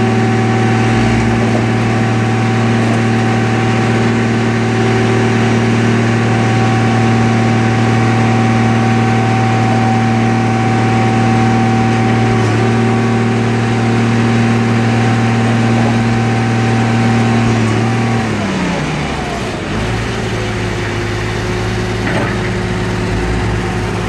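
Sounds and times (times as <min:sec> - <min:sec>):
engine running with steady hum: 0:00.0 - 0:24.0.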